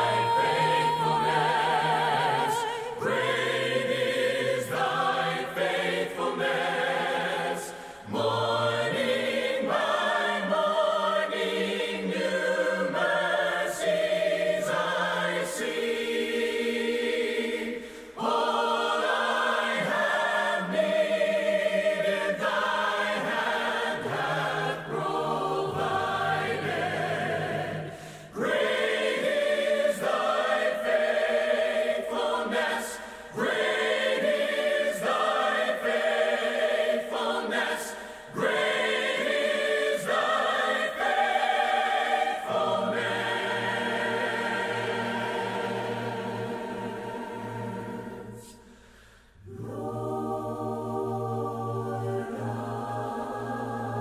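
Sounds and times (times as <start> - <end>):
choir singing sacred music: 0.0 - 54.0.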